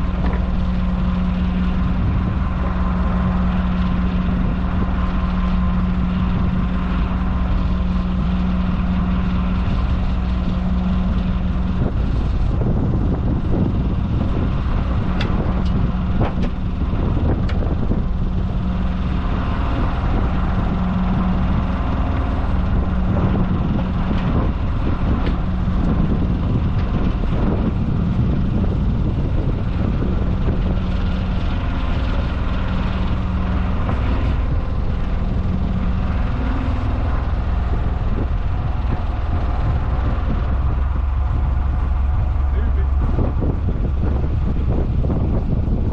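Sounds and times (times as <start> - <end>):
diesel engine running: 0.0 - 45.9
wind buffeting microphone: 0.0 - 45.9.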